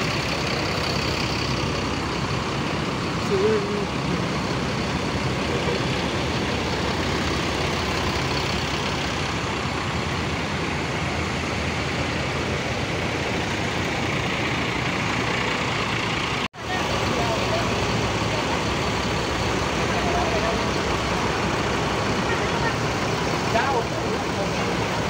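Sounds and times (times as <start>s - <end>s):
buses idling: 0.0s - 25.0s.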